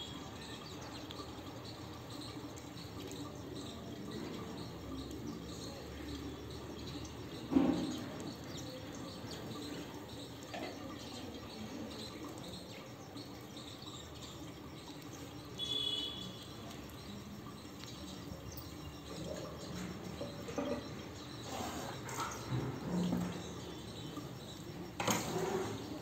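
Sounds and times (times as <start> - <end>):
background noise: 0.0 - 26.0
sparrows chirping: 0.0 - 26.0
birds splashing in water: 1.0 - 26.0.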